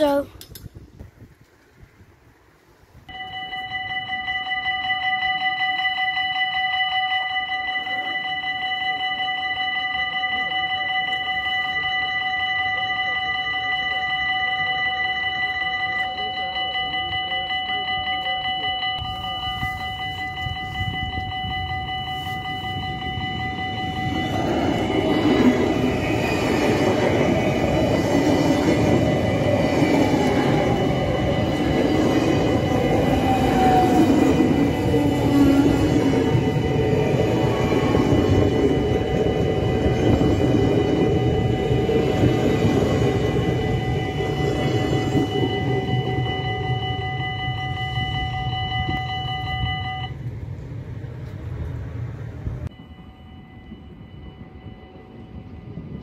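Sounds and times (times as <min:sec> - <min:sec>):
train passing at speed: 0:01.8 - 0:56.0
level crossing warning bell ringing: 0:03.1 - 0:50.3, 0:52.7 - 0:56.0.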